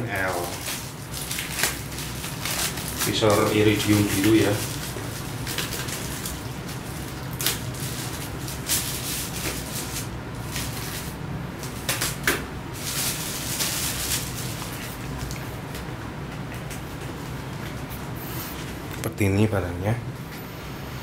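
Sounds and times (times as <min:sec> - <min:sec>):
plastic wrapping rustling: 0:00.0 - 0:19.0.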